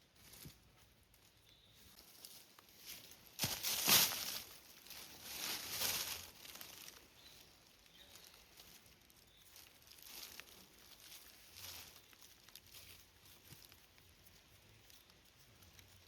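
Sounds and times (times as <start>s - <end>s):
rustling on forest floor: 0.0s - 16.0s.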